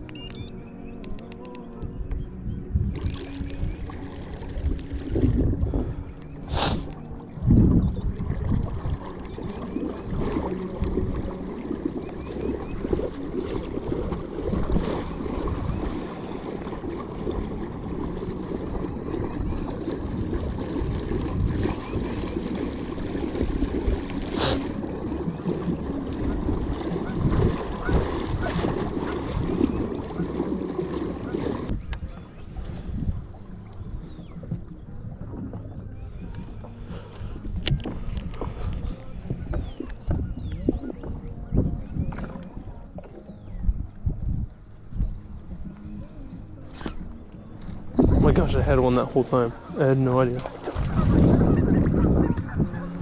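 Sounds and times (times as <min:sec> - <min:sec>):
water sloshing against kayak: 0:00.0 - 0:53.0
wind noise on microphone: 0:00.0 - 0:53.0.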